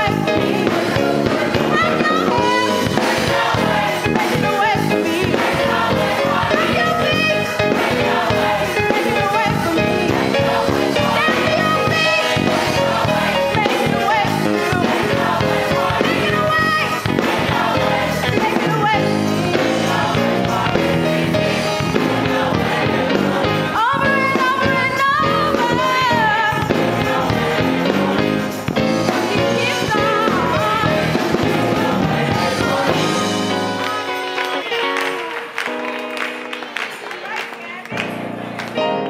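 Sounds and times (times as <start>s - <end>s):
gospel choir singing: 0.0s - 35.6s
lead voice singing: 0.0s - 35.6s
instrumental accompaniment: 0.0s - 39.0s.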